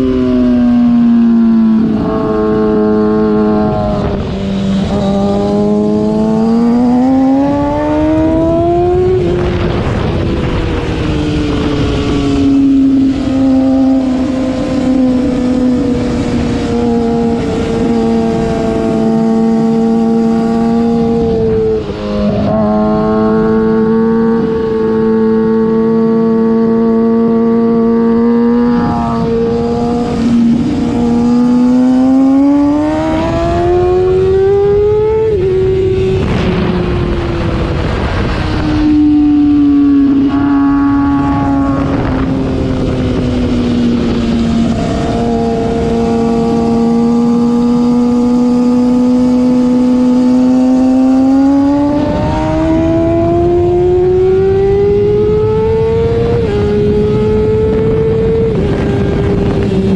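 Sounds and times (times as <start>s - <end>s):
motorcycle engine accelerating: 0.0s - 59.9s
wind noise rushing: 0.0s - 59.9s.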